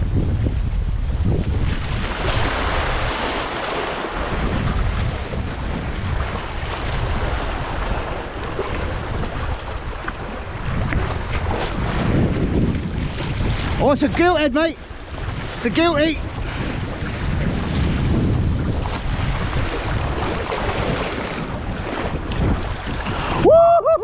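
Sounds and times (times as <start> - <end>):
wind buffeting microphone: 0.0 - 24.0
waves splashing against rocks: 1.3 - 23.5.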